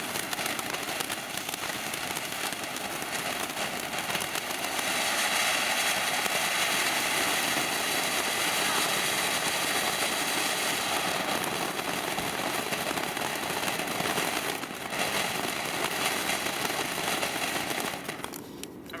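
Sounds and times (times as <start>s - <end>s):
firework hissing: 0.0s - 18.8s.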